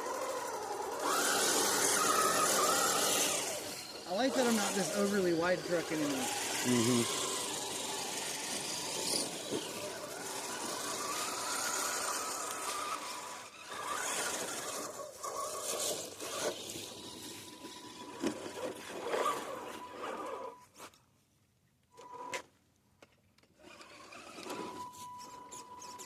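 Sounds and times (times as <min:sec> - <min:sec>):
small electric motor whining: 0:00.0 - 0:20.9, 0:23.5 - 0:26.0
tyres and chassis scraping: 0:00.0 - 0:21.0.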